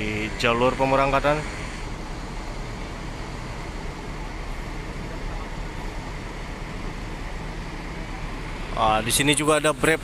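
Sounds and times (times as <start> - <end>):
coach engine running: 0.0 - 10.0
traffic rumble: 0.0 - 10.0.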